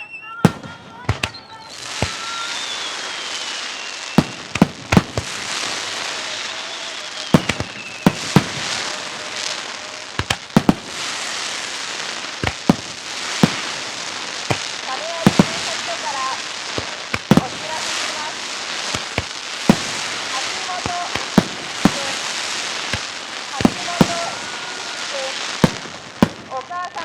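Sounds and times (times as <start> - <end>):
falling firework whistle: 0.0 - 26.6
firework crackle: 0.0 - 27.0
firework shells bursting: 0.5 - 27.0.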